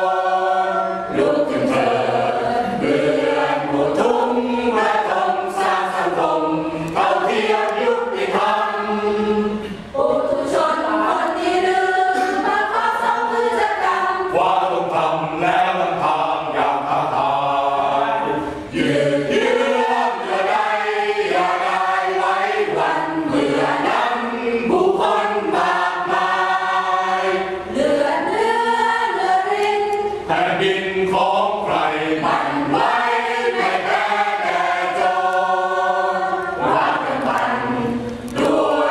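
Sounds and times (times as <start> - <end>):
mixed choir singing: 0.0 - 38.9.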